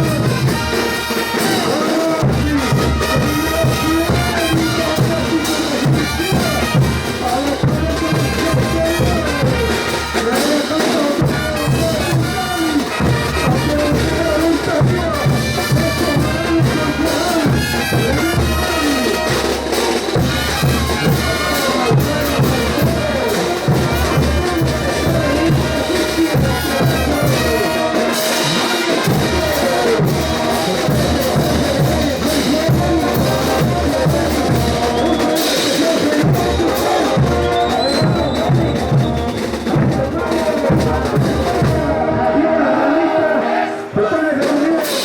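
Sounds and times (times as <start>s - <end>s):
drums and cymbals beat: 0.0s - 42.2s, 44.3s - 45.0s
brass band melody: 0.0s - 45.0s.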